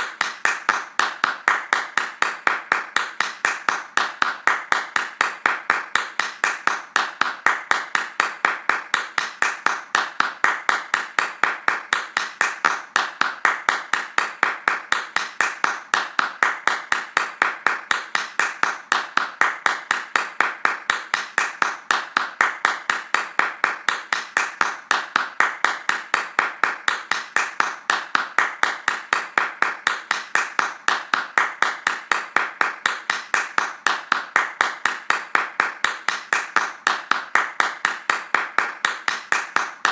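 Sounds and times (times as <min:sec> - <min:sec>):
fast hand clapping: 0:00.0 - 0:39.9.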